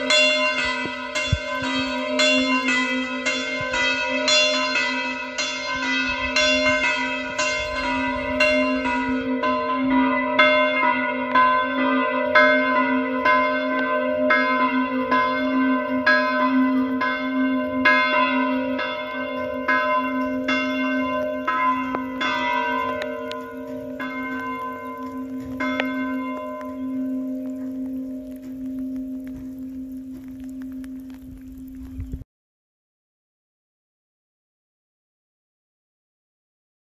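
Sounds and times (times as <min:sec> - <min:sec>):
church bells pealing: 0:00.0 - 0:31.1.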